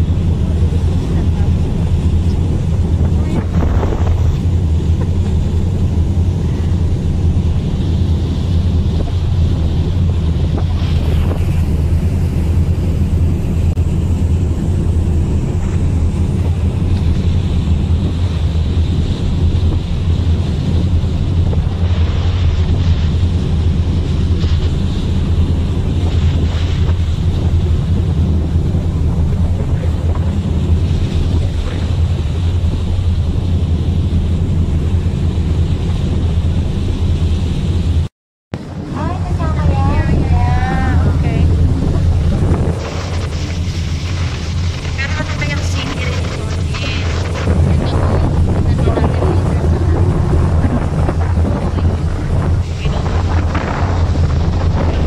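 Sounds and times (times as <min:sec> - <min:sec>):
sea wash along a hull: 0:00.0 - 0:55.0
wind buffeting the microphone: 0:00.0 - 0:55.0.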